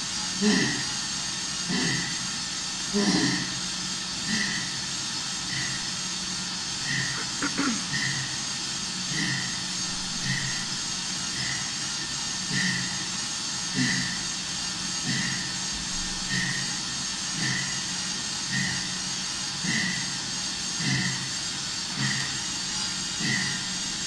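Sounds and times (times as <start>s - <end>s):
bike trainer whirring: 0.0s - 24.0s
heavy rhythmic breathing: 0.0s - 24.0s.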